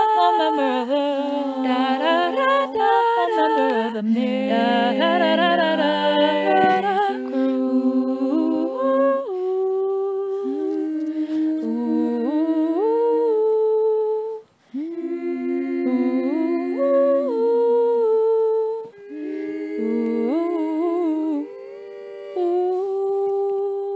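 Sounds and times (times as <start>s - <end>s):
voices humming in harmony: 0.0s - 23.9s.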